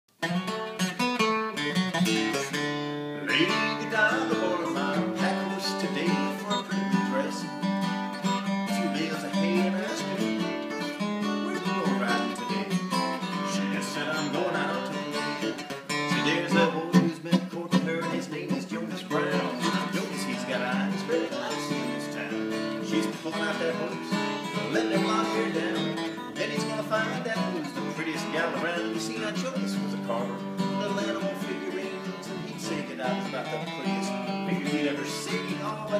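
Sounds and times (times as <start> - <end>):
acoustic guitar strummed: 0.1 - 35.9.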